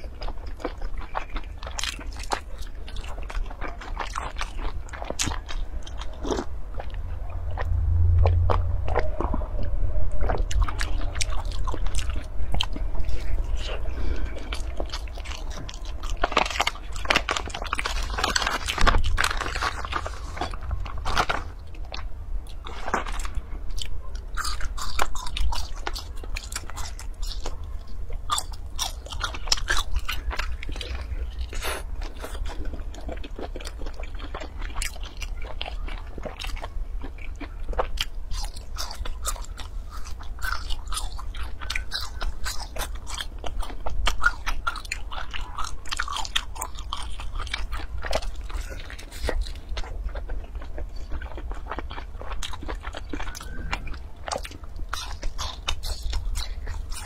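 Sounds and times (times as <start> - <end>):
crunchy chewing and biting: 0.0 - 57.0
steady low hum: 0.0 - 57.0.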